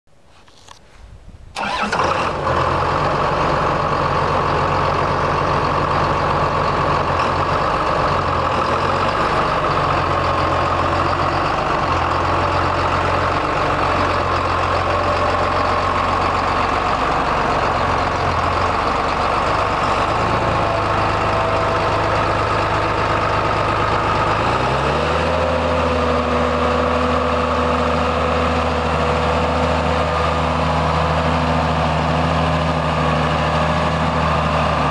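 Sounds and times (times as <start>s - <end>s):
tractor diesel engine idling: 1.6s - 34.9s.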